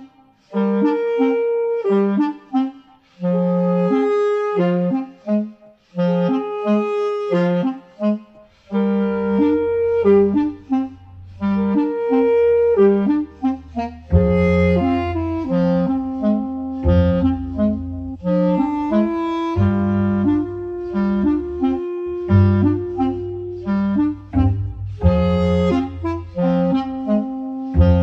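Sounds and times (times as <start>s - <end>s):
background music melody: 0.0s - 28.0s.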